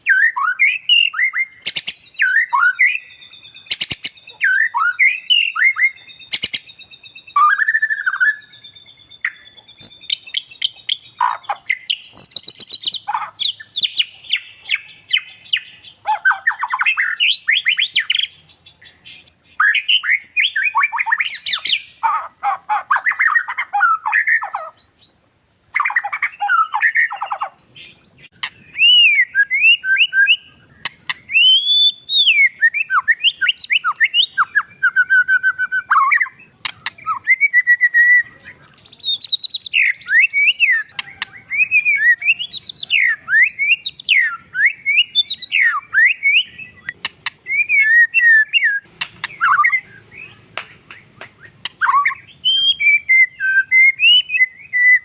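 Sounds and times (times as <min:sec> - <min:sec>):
bird singing whistled phrases: 0:00.0 - 0:22.2, 0:25.8 - 0:55.0.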